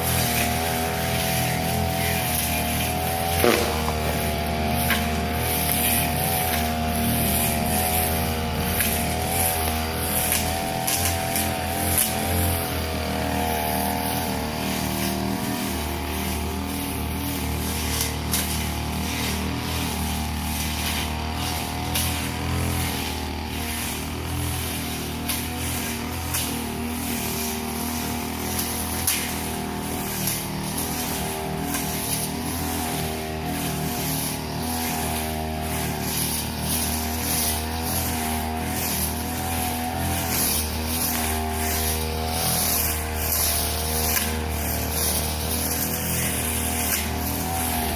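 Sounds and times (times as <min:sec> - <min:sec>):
brush cutter engine running: 0:00.0 - 0:47.9.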